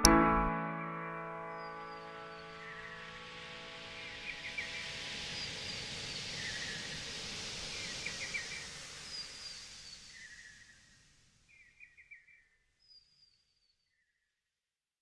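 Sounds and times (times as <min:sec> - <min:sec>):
background hiss: 0:00.0 - 0:12.5.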